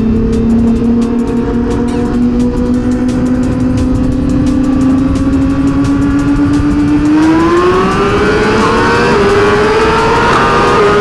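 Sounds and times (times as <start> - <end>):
motorcycle engine accelerating: 0.0 - 11.0
wind rushing: 0.0 - 11.0.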